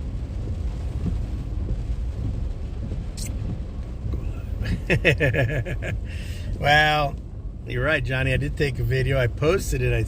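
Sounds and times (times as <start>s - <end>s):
car cabin rumble in rain: 0.0s - 10.0s.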